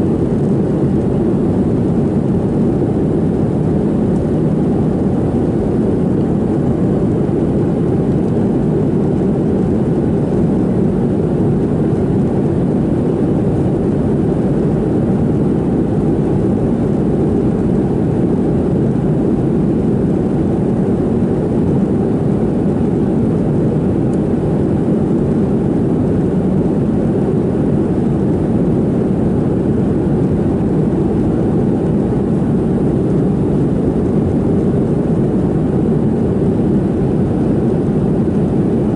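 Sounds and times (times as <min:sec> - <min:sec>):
airplane cabin engine rush: 0:00.0 - 0:38.9.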